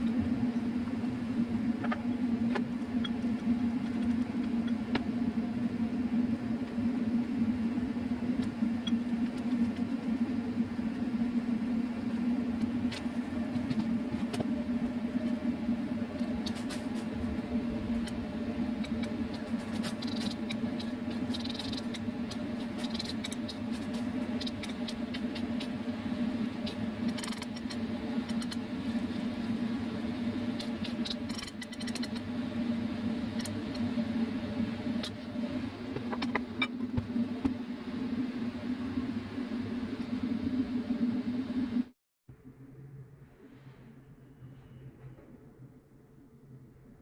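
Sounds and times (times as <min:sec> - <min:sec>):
low kitchen hum: 0:00.0 - 0:47.0.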